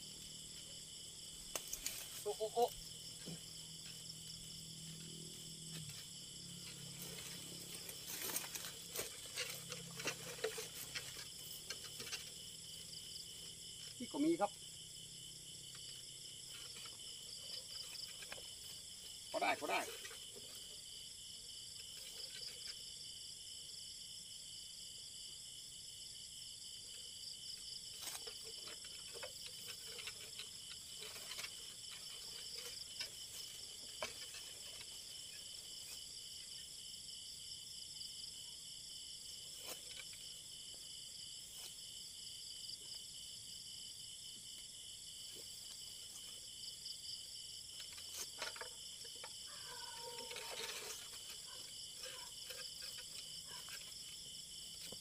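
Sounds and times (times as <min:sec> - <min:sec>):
leaves and twigs rustling: 0:00.0 - 0:22.9, 0:27.6 - 0:36.9, 0:39.3 - 0:42.0, 0:45.2 - 0:55.0
insects trilling: 0:00.0 - 0:55.0.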